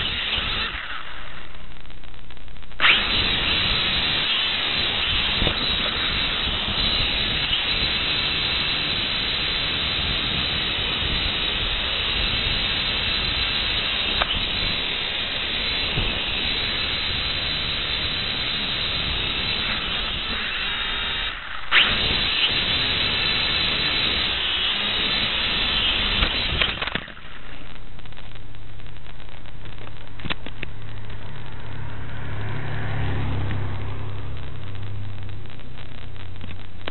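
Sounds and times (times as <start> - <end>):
sharp crack: 0.0 - 32.2, 33.3 - 36.9
steady loud hiss: 0.0 - 36.9.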